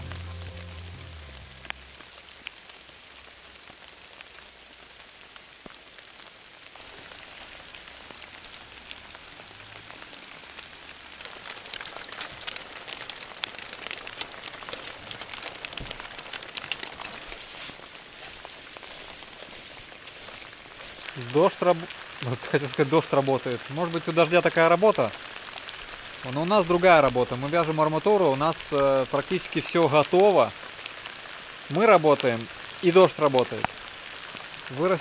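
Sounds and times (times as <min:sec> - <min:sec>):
rain falling: 0:00.0 - 0:35.0
raindrops ticking close by: 0:00.0 - 0:35.0.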